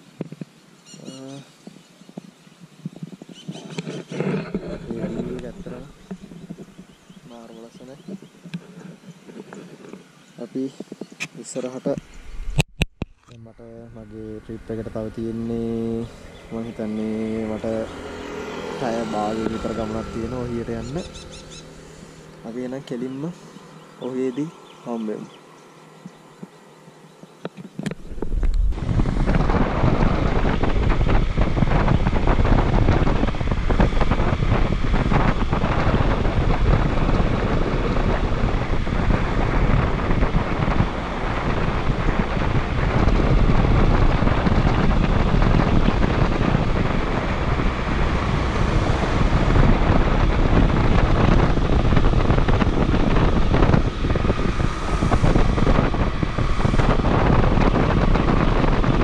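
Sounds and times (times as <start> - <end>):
wind on microphone: 0.0 - 25.4, 27.2 - 59.0
motorcycle engine running: 3.5 - 8.8, 12.0 - 59.0.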